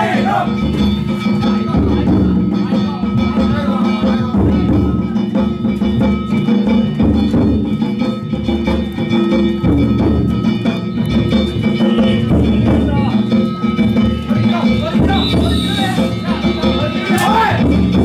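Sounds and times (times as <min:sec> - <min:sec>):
drum beating: 0:00.0 - 0:18.0
small gongs ringing: 0:00.0 - 0:18.0.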